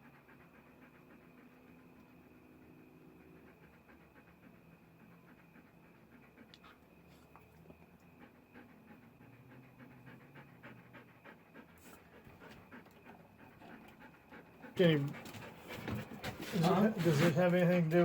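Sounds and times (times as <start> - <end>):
faint quick panting: 0.0 - 17.9.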